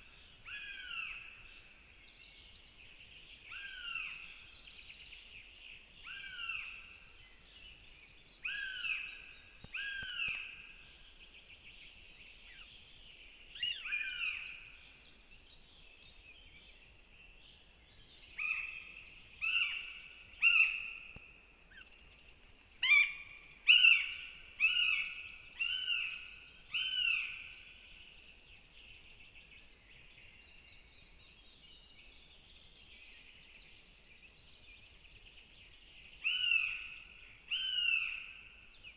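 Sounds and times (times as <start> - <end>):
faint outdoor background: 0.0 - 38.9.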